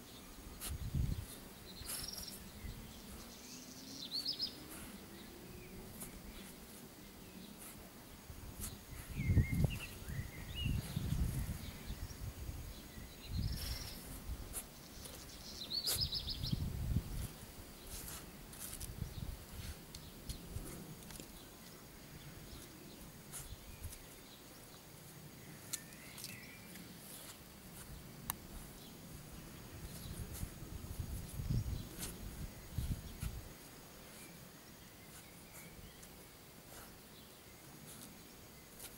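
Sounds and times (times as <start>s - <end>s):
small birds chirping: 0.0s - 38.9s
dog sniffing and scuffling: 0.5s - 11.9s, 13.4s - 24.3s, 25.0s - 38.9s.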